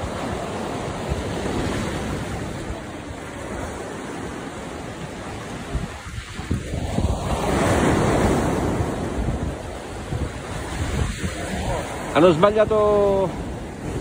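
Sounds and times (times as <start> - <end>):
surf breaking on rocks: 0.0 - 14.0
wind buffeting microphone: 0.0 - 14.0.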